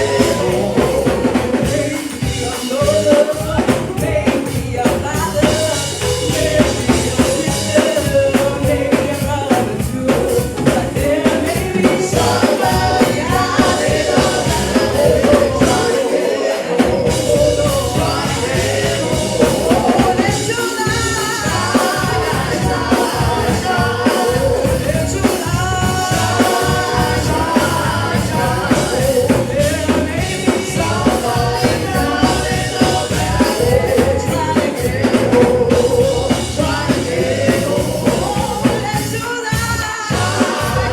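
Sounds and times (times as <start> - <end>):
gospel singers with band: 0.0 - 40.9.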